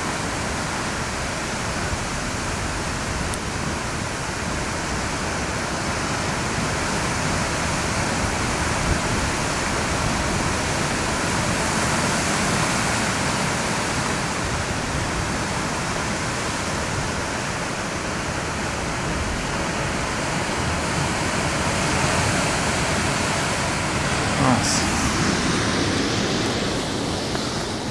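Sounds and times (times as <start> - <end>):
ocean surf breaking on rocks: 0.0 - 27.9.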